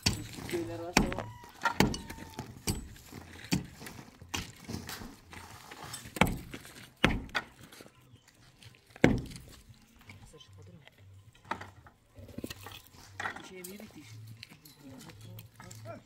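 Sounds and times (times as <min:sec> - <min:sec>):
loose earth crumbling: 0:00.0 - 0:16.0.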